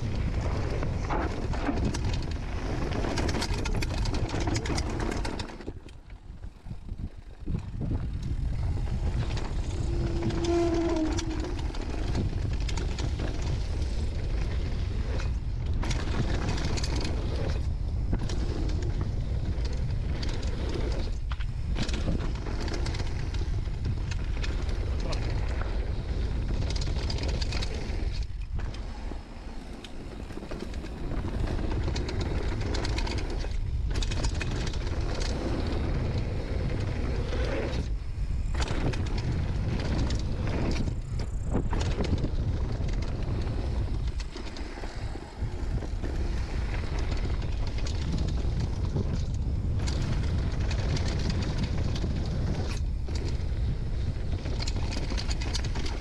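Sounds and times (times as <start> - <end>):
bike rattling over rough ground: 0.0 - 56.0
bike tyres rolling: 0.0 - 56.0
wind buffeting microphone: 0.0 - 56.0.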